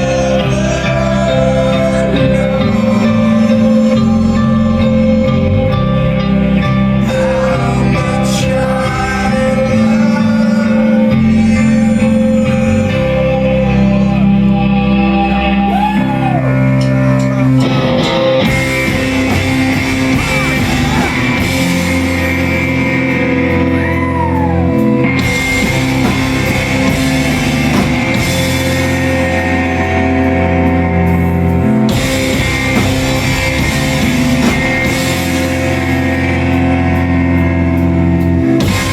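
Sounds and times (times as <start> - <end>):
rock band playing live: 0.0 - 38.9
sung vocals: 0.0 - 38.9.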